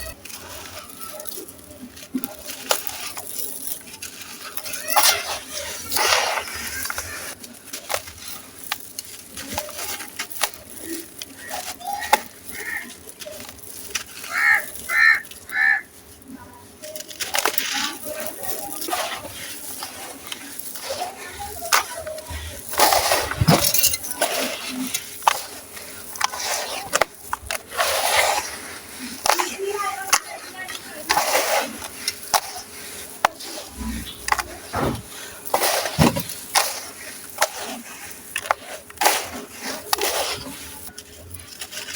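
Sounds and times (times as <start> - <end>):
sand cement chunks crumbling: 0.0 - 41.9.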